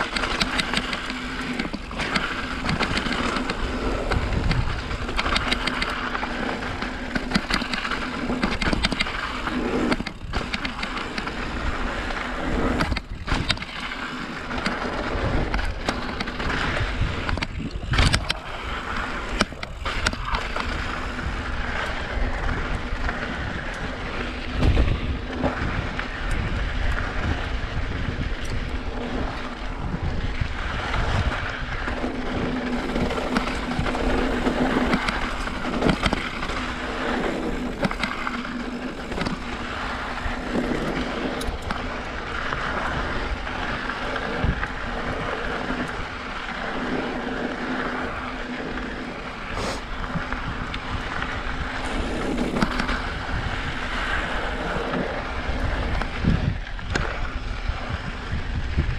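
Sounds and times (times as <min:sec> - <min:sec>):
bike knocking and rattling: 0:00.0 - 0:58.9
tyres rushing on dirt trail: 0:00.0 - 0:58.9
wind on microphone: 0:00.0 - 0:58.9.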